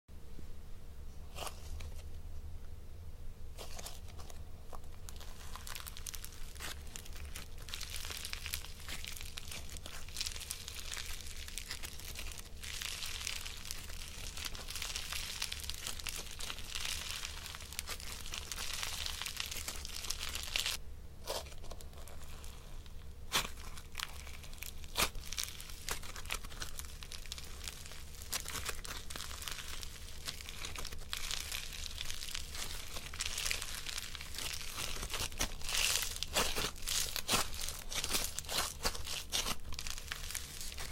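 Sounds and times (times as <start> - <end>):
slime crackling: 3.6 - 40.9.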